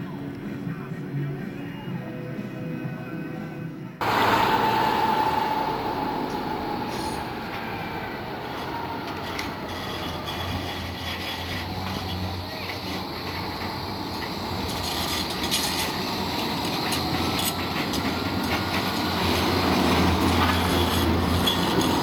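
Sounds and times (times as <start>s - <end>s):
faint tram whine: 4.0s - 22.0s
tram passing on street track: 4.0s - 22.0s.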